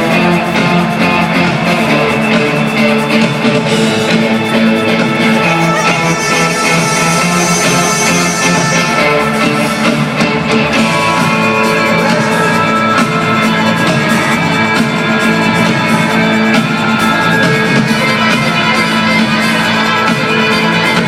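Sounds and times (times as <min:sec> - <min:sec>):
drum kit beat: 0:00.0 - 0:21.0
electric guitars: 0:00.0 - 0:21.0.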